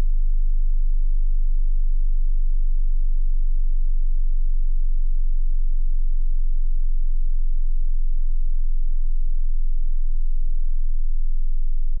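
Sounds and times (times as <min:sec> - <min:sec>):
very deep sine tone hum: 0:00.0 - 0:12.0.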